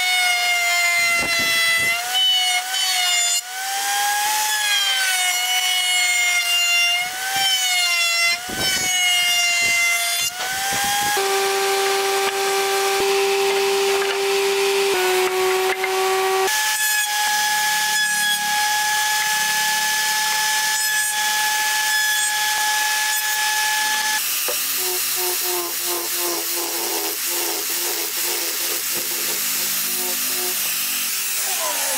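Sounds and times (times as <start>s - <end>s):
angle grinder sanding wood: 0.0s - 31.9s
power tool whining: 0.0s - 31.9s.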